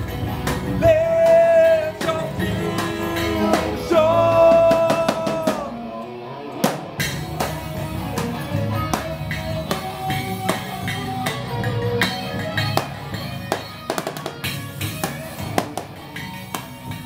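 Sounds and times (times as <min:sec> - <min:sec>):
drum kit: 0:00.0 - 0:05.9, 0:06.6 - 0:17.0
electric guitar: 0:00.0 - 0:17.0.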